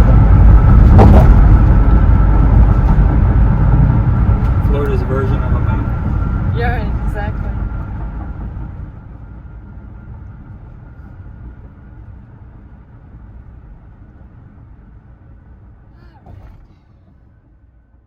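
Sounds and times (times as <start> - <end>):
van road and wind noise: 0.0 - 18.0.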